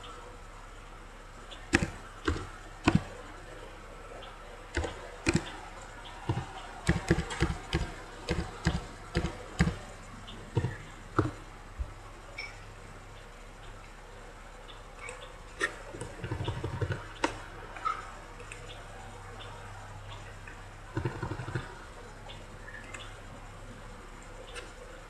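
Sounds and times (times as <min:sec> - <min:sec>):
faint steady low hum: 0:00.0 - 0:25.0.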